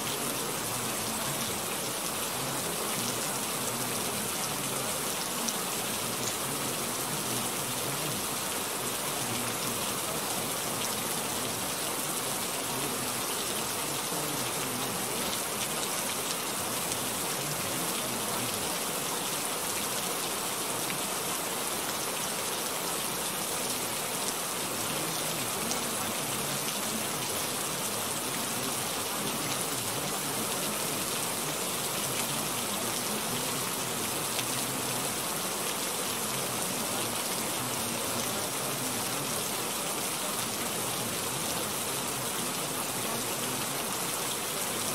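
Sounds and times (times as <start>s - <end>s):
steady rain-like hiss: 0.0s - 44.9s.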